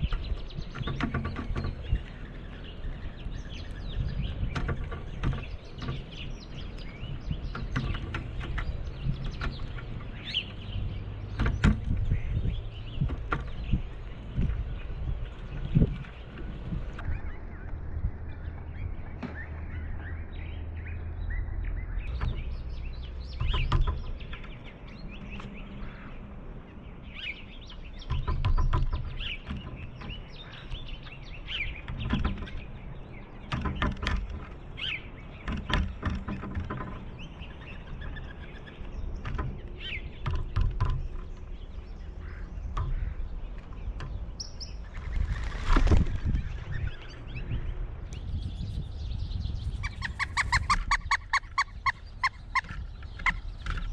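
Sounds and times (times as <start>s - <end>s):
woodpecker tapping: 0.0s - 17.1s, 22.1s - 26.2s, 27.1s - 44.9s, 46.8s - 53.9s
bird chirps: 0.0s - 53.9s.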